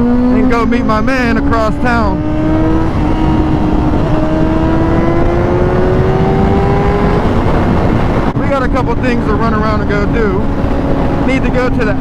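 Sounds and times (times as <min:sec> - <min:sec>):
motorcycle engine revving: 0:00.0 - 0:12.0
wind rumble on microphone: 0:00.0 - 0:12.0.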